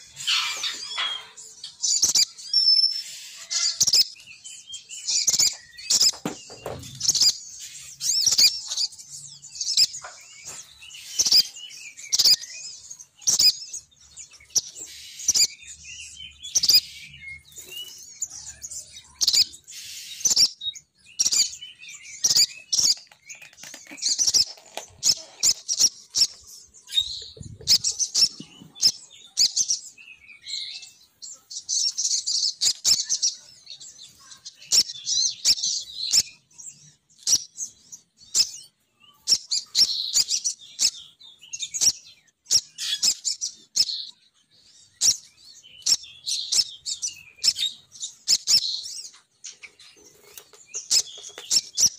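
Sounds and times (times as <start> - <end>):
birds chirping in fast bursts: 0.0 - 51.9.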